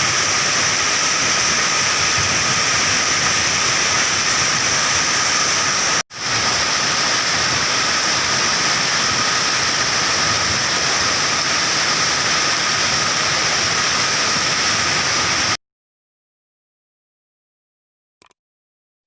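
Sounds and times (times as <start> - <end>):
heavy rain pouring: 0.0 - 15.6.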